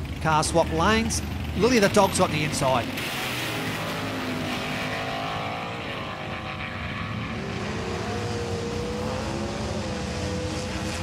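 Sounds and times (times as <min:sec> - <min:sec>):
racing car engine rumble: 0:00.0 - 0:11.0.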